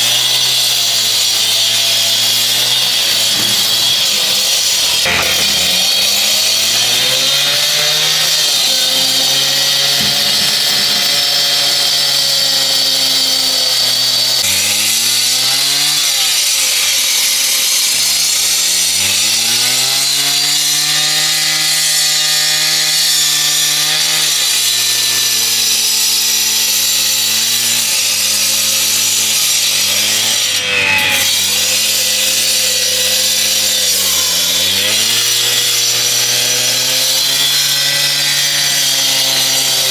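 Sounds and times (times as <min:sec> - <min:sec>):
power cutter grinding concrete: 0:00.0 - 0:39.9.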